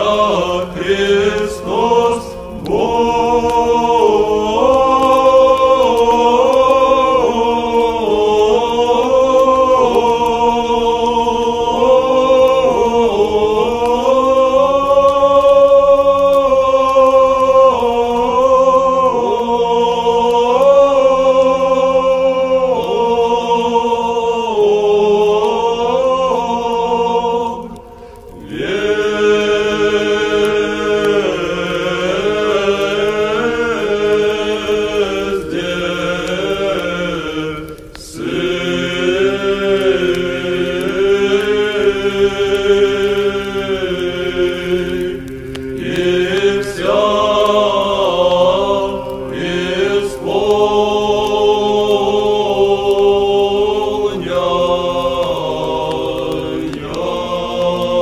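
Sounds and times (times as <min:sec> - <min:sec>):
choir singing a church chant: 0:00.0 - 0:58.0.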